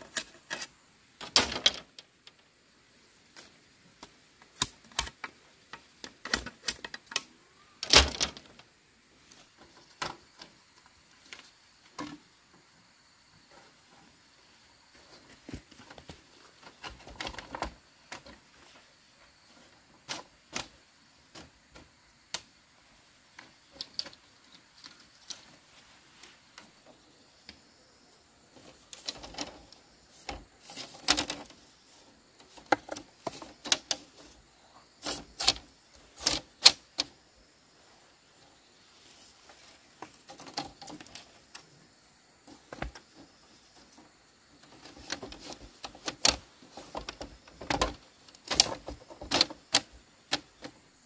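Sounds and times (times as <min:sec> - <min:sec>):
bamboo strips clattering: 0:00.0 - 0:12.7, 0:13.5 - 0:27.7, 0:28.4 - 0:37.2, 0:38.3 - 0:51.0.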